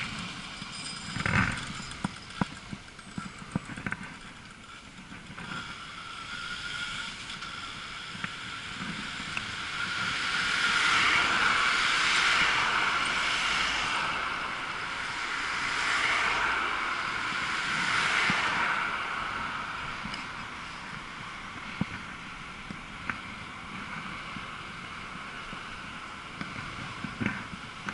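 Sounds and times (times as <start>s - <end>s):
road noise: 0.0s - 27.9s
rushing wind: 0.0s - 27.9s.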